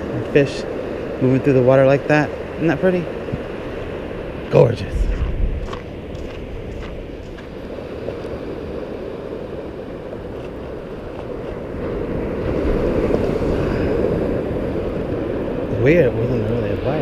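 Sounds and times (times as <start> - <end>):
ocean surf washing ashore: 0.0 - 17.0
wind rumbling on microphone: 0.0 - 17.0.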